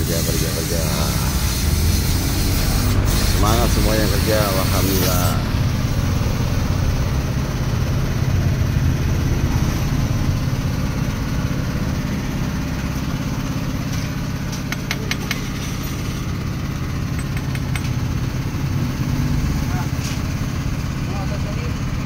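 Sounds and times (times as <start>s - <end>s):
motorcycle engine idling: 0.1s - 22.0s.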